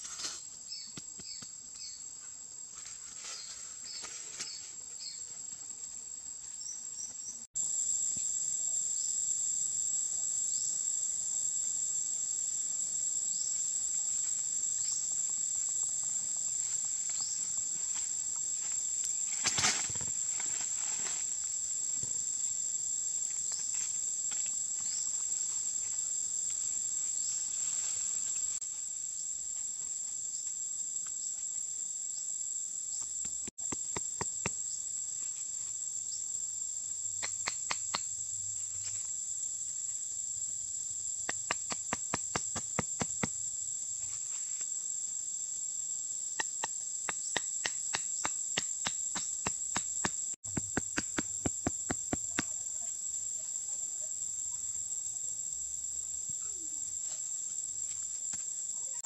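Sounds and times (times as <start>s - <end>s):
rising insect chirps: 6.4s - 59.0s.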